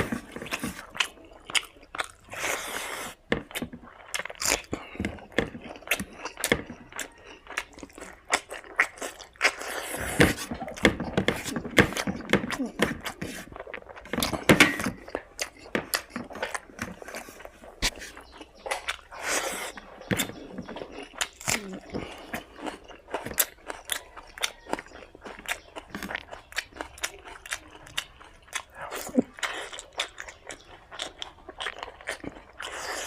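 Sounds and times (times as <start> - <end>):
person chewing and smacking: 0.0 - 33.0.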